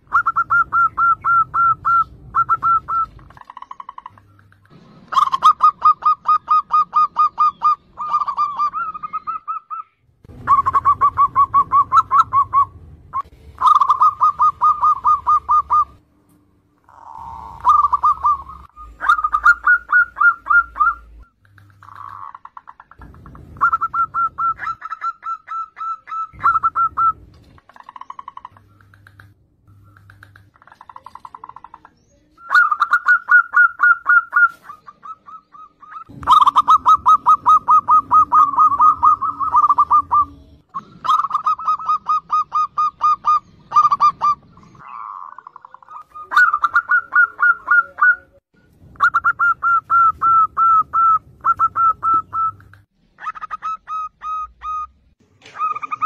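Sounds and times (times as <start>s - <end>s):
dove cooing: 0.0s - 16.0s, 16.8s - 48.4s, 49.0s - 56.0s.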